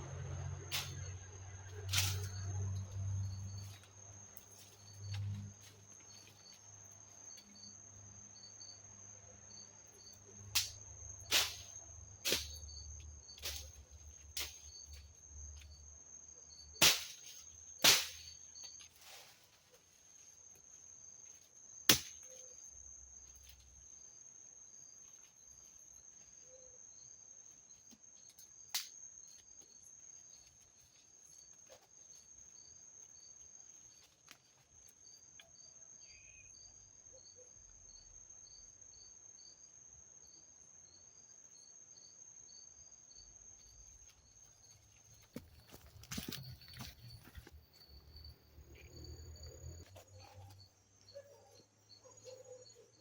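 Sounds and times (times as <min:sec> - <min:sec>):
insects buzzing: 0:00.0 - 0:37.3, 0:37.9 - 0:53.0
pulsing insect chirp: 0:00.0 - 0:53.0.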